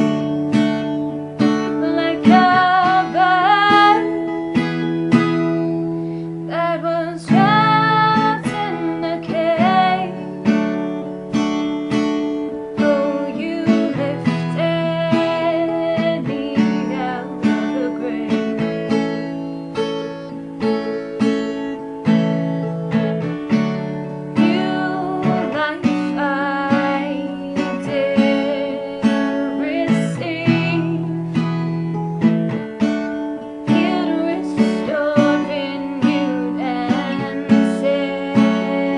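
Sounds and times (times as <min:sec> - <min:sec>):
woman singing: 0:00.0 - 0:11.2, 0:11.8 - 0:20.3, 0:21.4 - 0:38.9
acoustic guitar strumming: 0:00.0 - 0:38.9.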